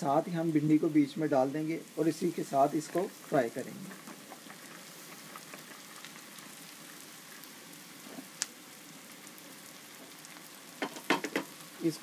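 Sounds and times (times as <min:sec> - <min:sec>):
onions and okra sizzling in oil: 0:00.0 - 0:12.0.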